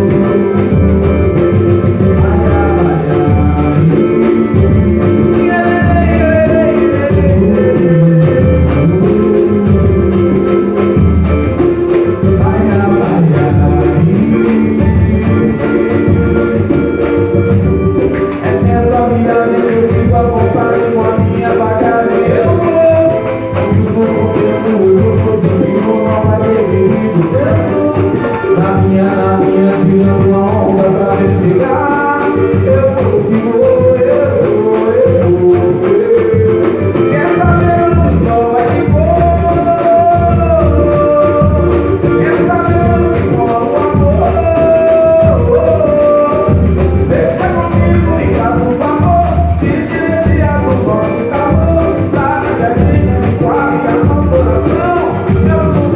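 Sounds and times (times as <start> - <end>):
person singing: 0.0 - 55.9
steady drum beat: 0.0 - 55.9
tambourine jingle: 0.0 - 55.9.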